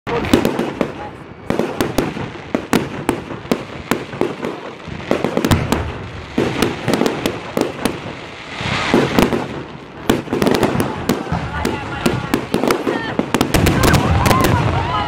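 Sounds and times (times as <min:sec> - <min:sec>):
fireworks bangs and cracks: 0:00.1 - 0:15.0
fireworks hissing rush: 0:00.1 - 0:15.0.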